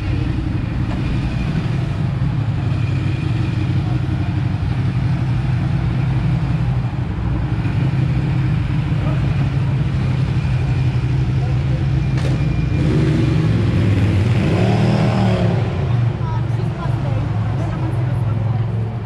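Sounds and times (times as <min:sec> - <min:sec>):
road noise: 0:00.0 - 0:19.0
traffic engine hum: 0:00.0 - 0:19.0.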